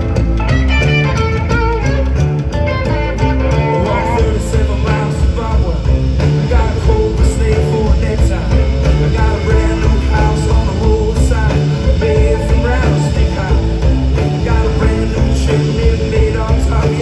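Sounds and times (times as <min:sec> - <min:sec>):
live rock band playing: 0:00.0 - 0:17.0
person singing: 0:03.1 - 0:17.0.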